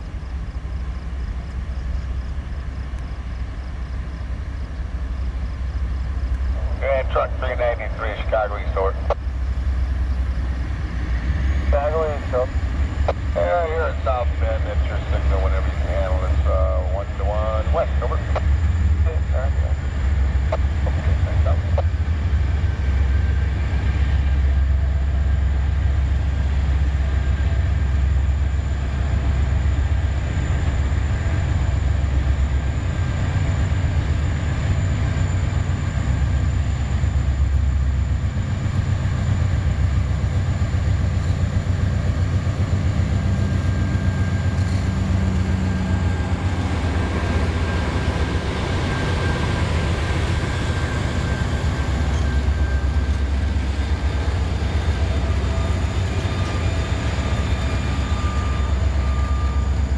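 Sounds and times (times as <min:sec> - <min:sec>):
locomotive engine rumble: 0:00.0 - 0:59.9.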